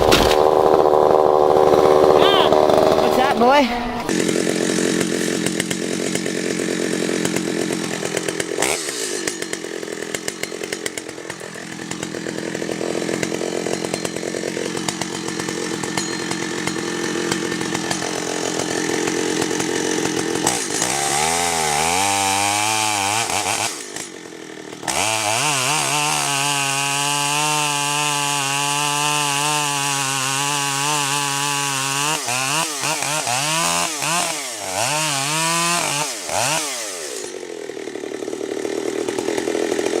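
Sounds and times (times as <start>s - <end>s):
chainsaw running: 0.0s - 40.0s.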